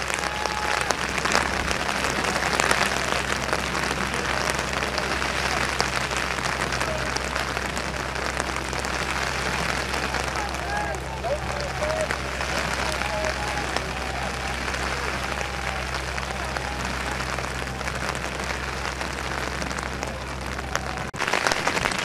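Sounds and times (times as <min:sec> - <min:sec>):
spectators clapping and cheering: 0:00.0 - 0:22.0.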